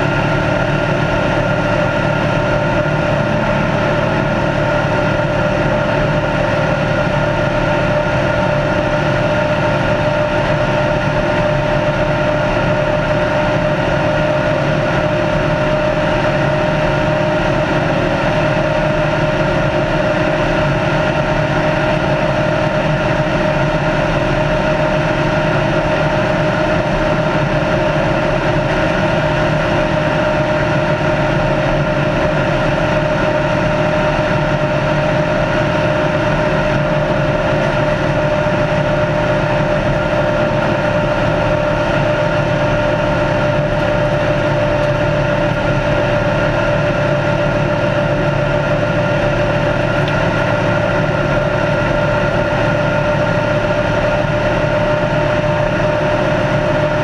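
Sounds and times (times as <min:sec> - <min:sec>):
race car engine running: 0:00.0 - 0:57.0
road and wind noise: 0:00.0 - 0:57.0.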